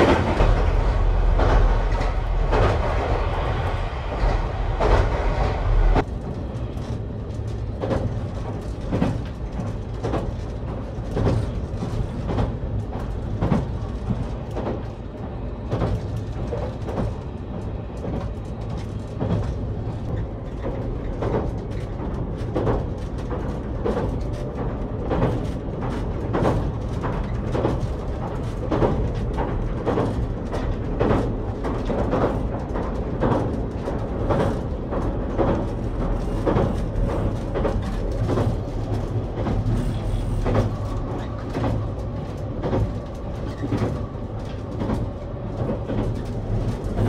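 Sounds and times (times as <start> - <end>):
train interior rumble: 0.0 - 47.0.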